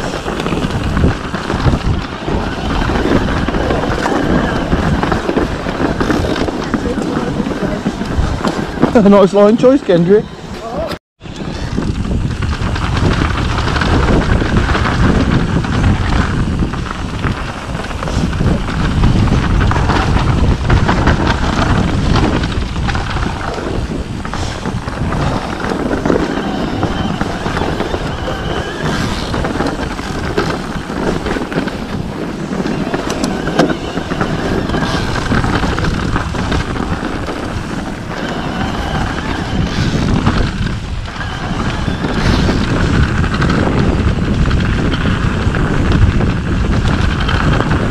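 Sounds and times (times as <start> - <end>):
bike frame rattling: 0.0 - 10.3, 11.3 - 47.9
bike tyres rolling over dirt: 0.0 - 47.9
wind rush on microphone: 0.0 - 47.9.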